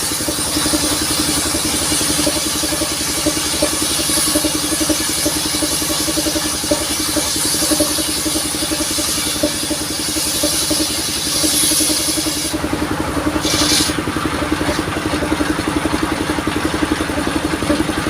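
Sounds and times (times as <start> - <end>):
engine running with rapid pulse: 0.0 - 18.0.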